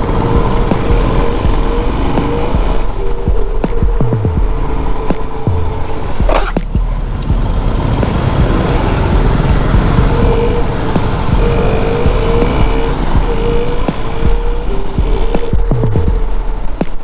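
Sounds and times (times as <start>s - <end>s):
motorcycle engines rumbling: 0.0s - 17.0s.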